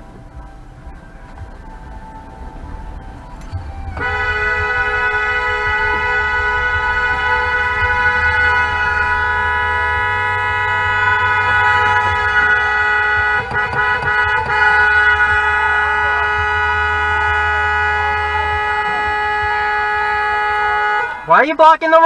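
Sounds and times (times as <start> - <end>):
road and engine rumble: 0.0 - 22.0
car horn blast: 3.4 - 22.0.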